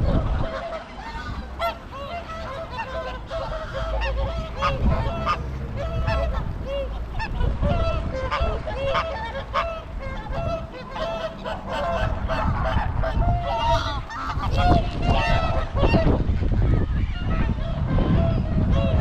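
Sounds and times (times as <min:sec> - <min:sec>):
geese honking: 0:00.0 - 0:19.0
wind rumbling on microphone: 0:00.0 - 0:19.0.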